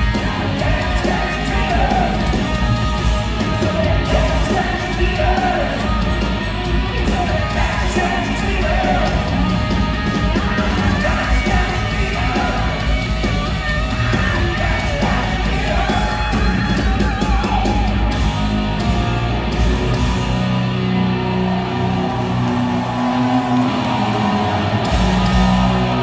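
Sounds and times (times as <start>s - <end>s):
yelled vocals: 0.0s - 18.2s, 20.9s - 26.0s
live hard rock band: 0.0s - 26.0s.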